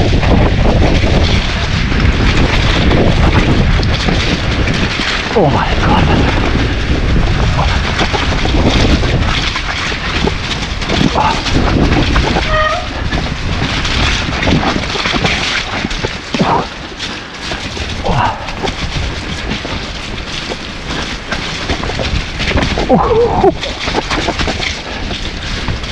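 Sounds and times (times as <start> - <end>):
bike rattling and knocking: 0.0 - 25.9
tyre noise: 0.0 - 25.9
wind buffeting microphone: 0.0 - 25.9.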